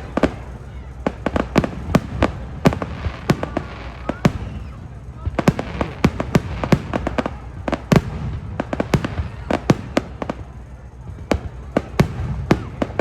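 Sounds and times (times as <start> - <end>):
continuous low rumble: 0.0 - 13.0
fireworks bangs: 0.0 - 13.0.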